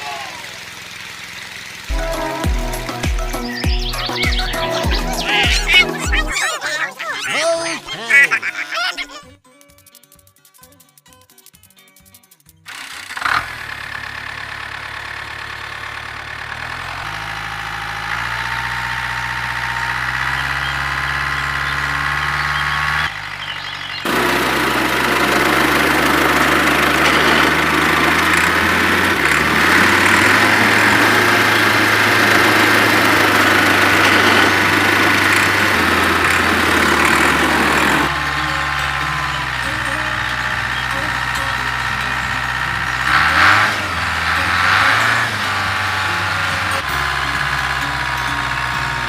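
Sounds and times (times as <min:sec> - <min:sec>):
engine running: 0:00.0 - 0:09.2, 0:12.6 - 0:49.0.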